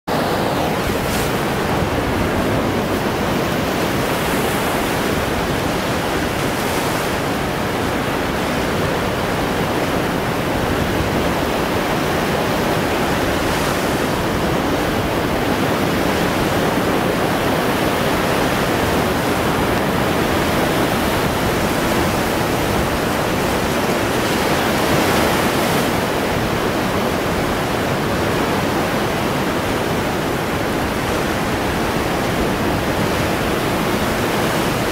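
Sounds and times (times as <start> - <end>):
waves breaking on shore: 0.1 - 34.9.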